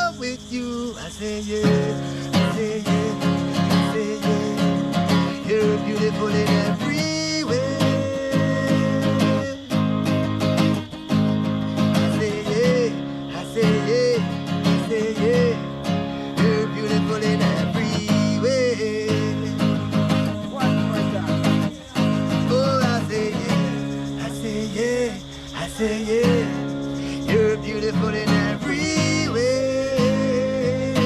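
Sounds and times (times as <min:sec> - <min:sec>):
instrumental song with guitar: 0:00.0 - 0:31.0.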